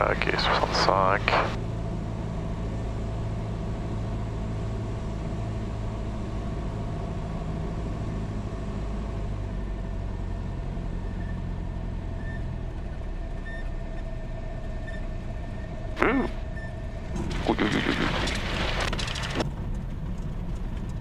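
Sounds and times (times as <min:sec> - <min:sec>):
aircraft engine and propeller droning: 0:00.0 - 0:21.0.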